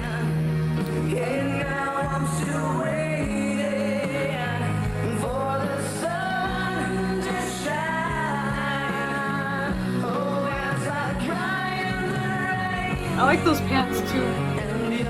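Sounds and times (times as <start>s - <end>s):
rock ballad with singer: 0.0s - 15.0s.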